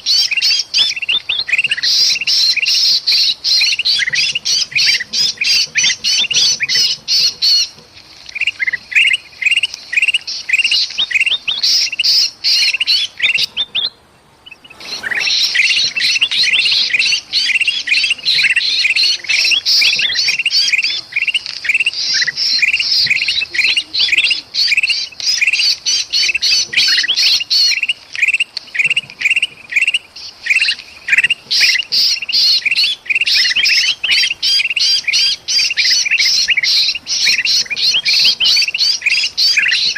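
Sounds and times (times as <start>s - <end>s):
bulbuls alarm calling: 0.0s - 39.9s.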